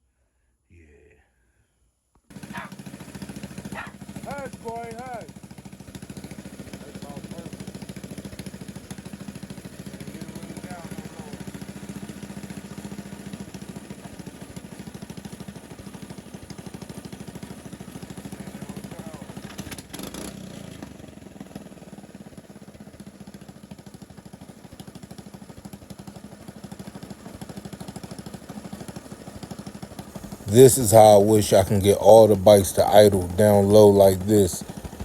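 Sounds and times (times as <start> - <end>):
mini bike engine idling: 2.3 - 35.0.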